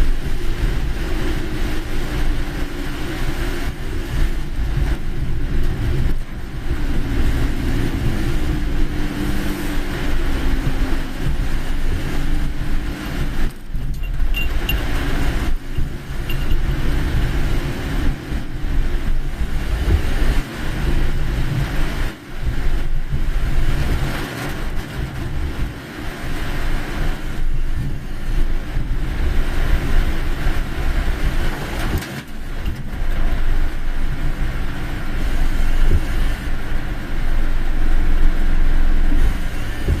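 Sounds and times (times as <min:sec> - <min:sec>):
car engine and road rumble: 0:00.0 - 0:40.0
wet tyres on road: 0:00.0 - 0:40.0.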